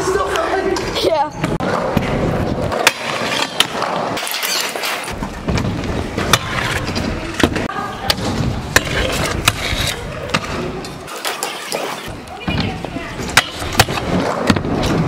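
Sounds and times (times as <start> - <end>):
scooter wheels rolling on concrete: 0.0 - 15.0.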